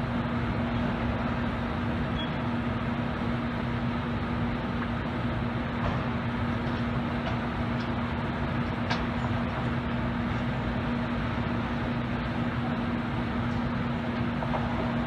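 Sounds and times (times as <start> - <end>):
train ventilation blowers rushing: 0.0 - 15.0.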